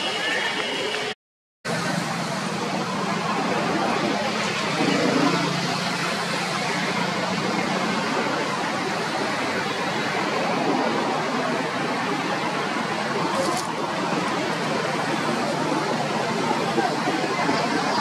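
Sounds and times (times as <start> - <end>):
rushing outdoor background noise: 0.0 - 18.0.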